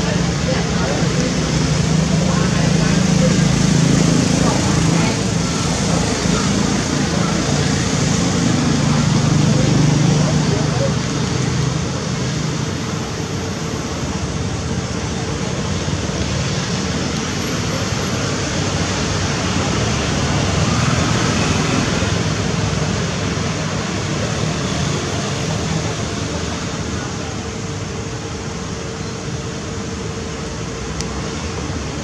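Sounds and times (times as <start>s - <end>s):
road traffic rush: 0.0s - 32.0s.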